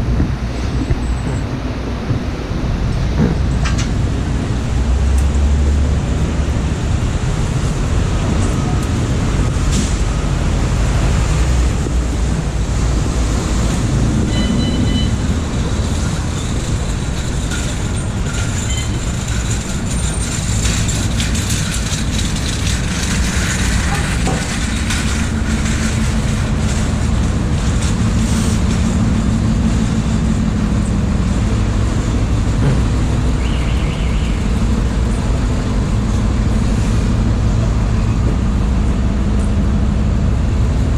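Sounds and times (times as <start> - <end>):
subway train rumbling: 0.0 - 40.9.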